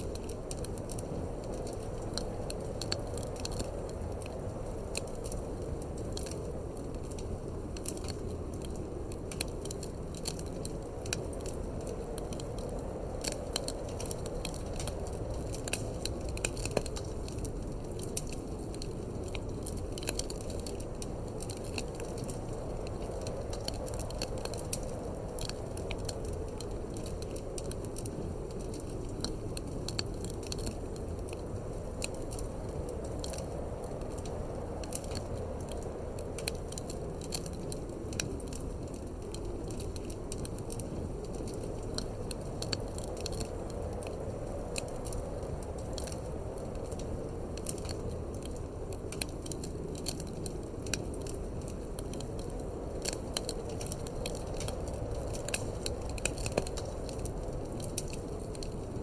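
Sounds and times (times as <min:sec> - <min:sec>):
low rumble of wind: 0:00.0 - 0:59.0
wood fire crackling and popping: 0:00.0 - 0:59.0.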